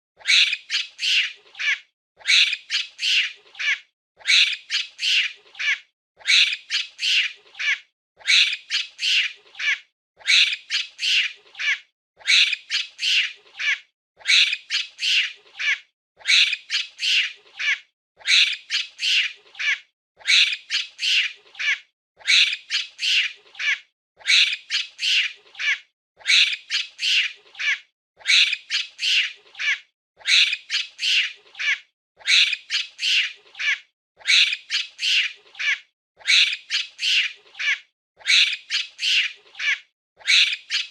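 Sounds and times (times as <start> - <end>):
monkey calling: 0.2 - 40.9.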